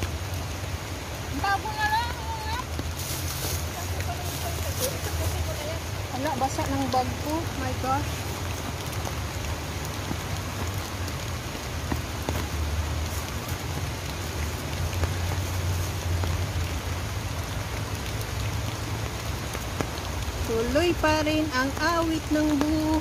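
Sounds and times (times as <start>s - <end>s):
heavy rain on umbrellas: 0.0s - 23.0s.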